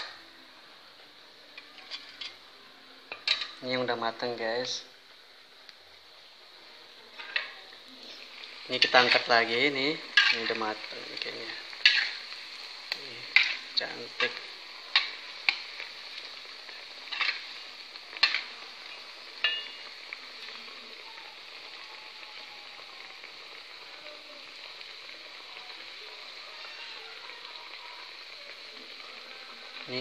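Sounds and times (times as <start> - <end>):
fritters sizzling in hot oil: 0.0 - 30.0.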